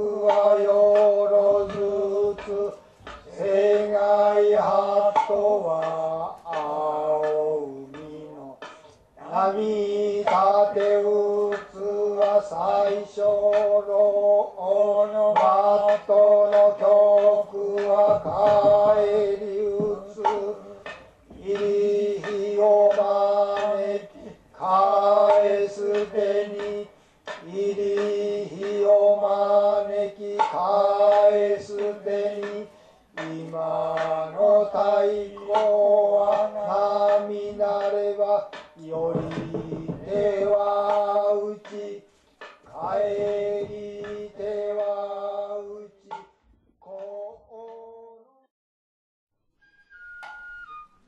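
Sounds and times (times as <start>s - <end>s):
man chanting: 0.0s - 46.2s, 46.8s - 48.5s.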